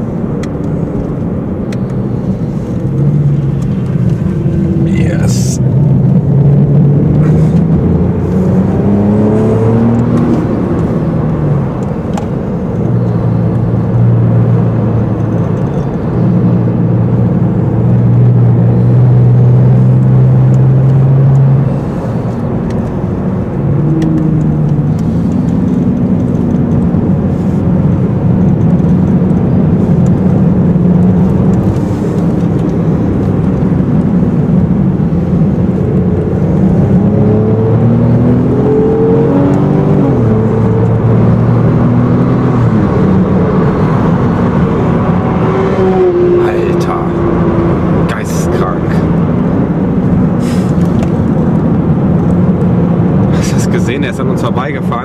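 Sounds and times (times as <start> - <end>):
car engine revving from cabin: 2.0 - 55.0.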